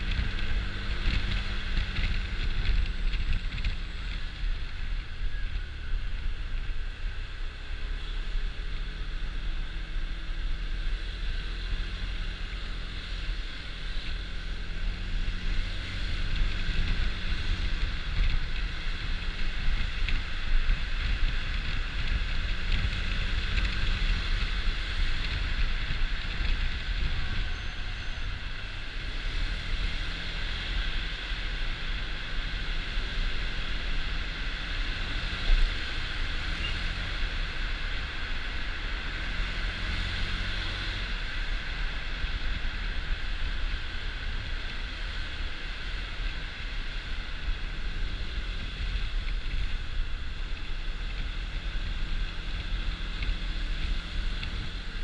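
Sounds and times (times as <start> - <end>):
scooter running and road noise: 0.0 - 55.0.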